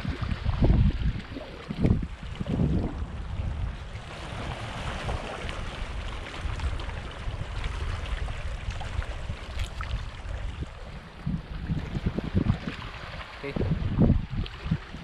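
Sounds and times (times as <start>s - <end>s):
seawater splashing and sloshing: 0.0s - 15.0s
wind rumble on microphone: 0.0s - 15.0s.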